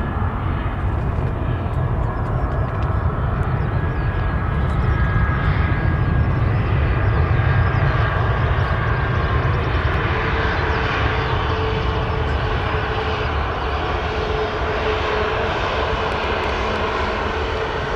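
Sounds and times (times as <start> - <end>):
jet engines running: 0.0 - 17.9.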